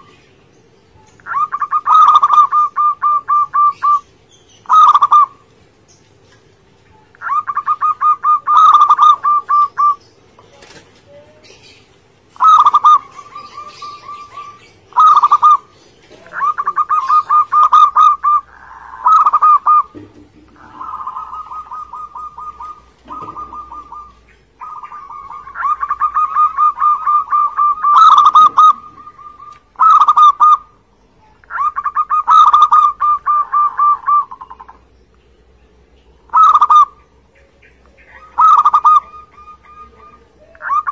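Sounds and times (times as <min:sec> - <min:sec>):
dove cooing: 0:00.9 - 0:05.6, 0:06.9 - 0:34.9, 0:36.2 - 0:40.9.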